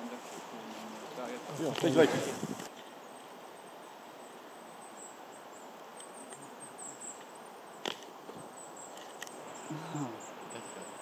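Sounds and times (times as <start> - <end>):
small birds calling: 0.0 - 11.0
steady low hiss: 0.0 - 11.0.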